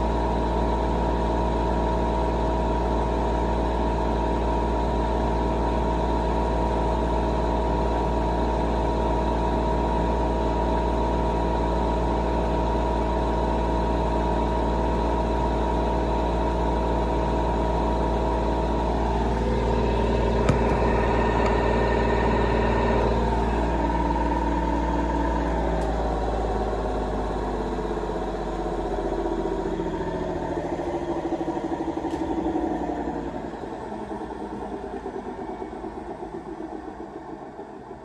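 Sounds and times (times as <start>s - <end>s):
washing machine spin winding down: 0.0s - 38.0s.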